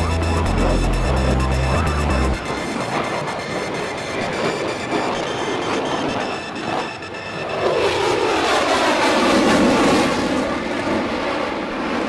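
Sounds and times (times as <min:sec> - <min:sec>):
jet fighter roaring past: 0:00.0 - 0:12.0.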